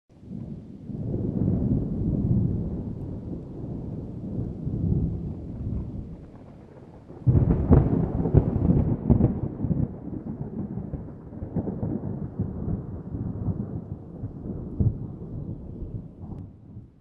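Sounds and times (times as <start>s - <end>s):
distant thunder rolling: 0.1s - 17.0s.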